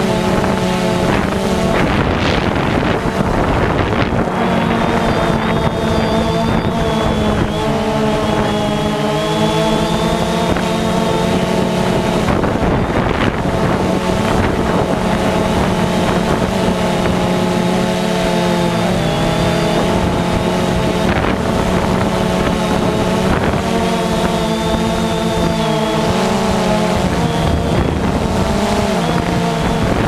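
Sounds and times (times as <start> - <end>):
quadcopter propellers droning: 0.0 - 30.0
wind buffeting microphone: 0.0 - 30.0.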